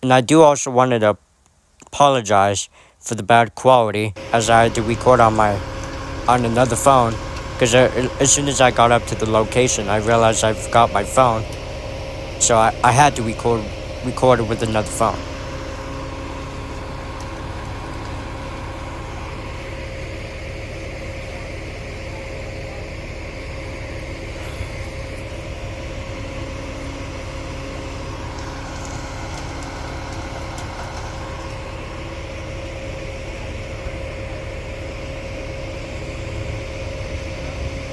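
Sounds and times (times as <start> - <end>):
heavy vehicle engine running: 4.2 - 37.9
tonal whine: 4.2 - 37.9.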